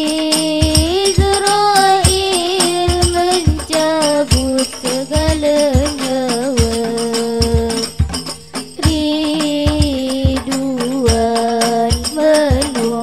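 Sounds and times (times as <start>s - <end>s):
frame drums beating: 0.0s - 13.0s
girl singing into a microphone: 0.0s - 13.0s.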